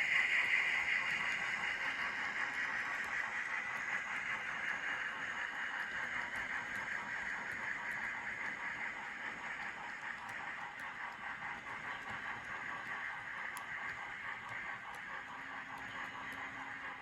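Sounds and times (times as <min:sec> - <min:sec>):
steam chuffing from small speaker: 0:00.0 - 0:17.0.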